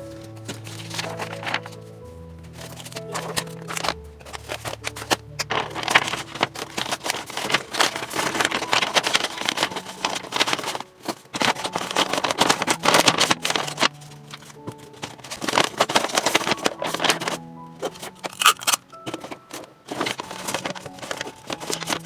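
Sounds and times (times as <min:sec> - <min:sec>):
paper crinkling and rustling: 0:00.0 - 0:22.0.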